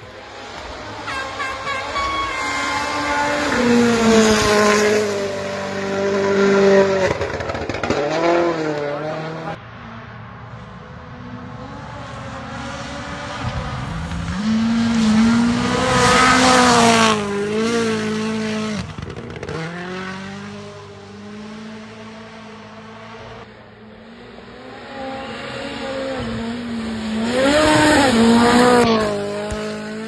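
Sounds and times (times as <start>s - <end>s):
rally car engine at full throttle: 0.0s - 30.0s.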